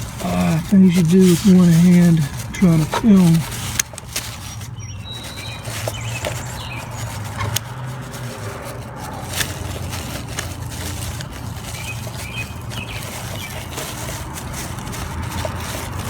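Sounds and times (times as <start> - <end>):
engine humming: 0.0 - 16.0
light clicks and scrapes: 0.0 - 16.0.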